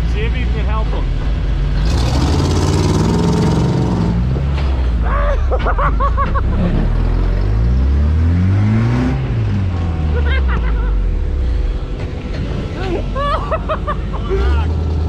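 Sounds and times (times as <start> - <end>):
truck engine running and revving: 0.0 - 15.0.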